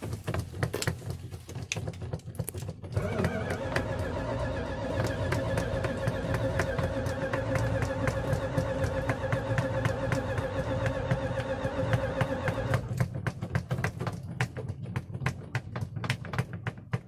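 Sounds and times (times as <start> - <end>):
engine running roughly: 0.0 - 17.0.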